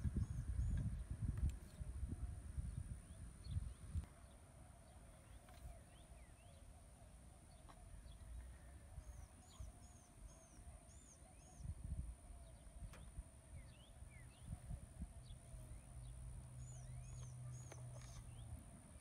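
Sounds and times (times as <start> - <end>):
small birds chirping: 2.6 - 19.0.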